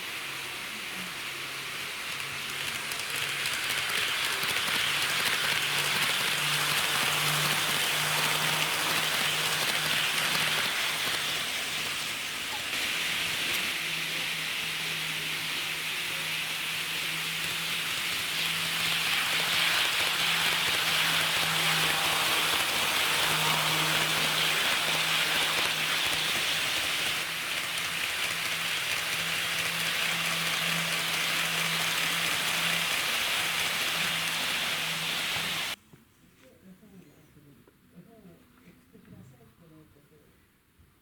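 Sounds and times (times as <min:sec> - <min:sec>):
wheels rolling on rails: 0:00.0 - 0:35.8.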